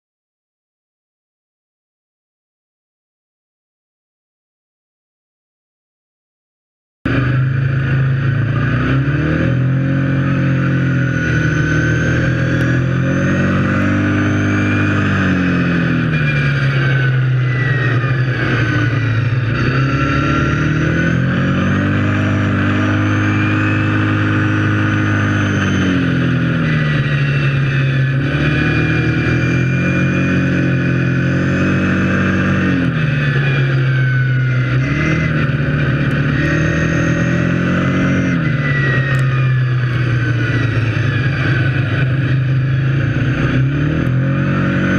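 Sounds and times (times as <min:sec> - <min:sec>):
high engine whine: 0:07.1 - 0:44.9
quad engine revving: 0:07.1 - 0:44.9.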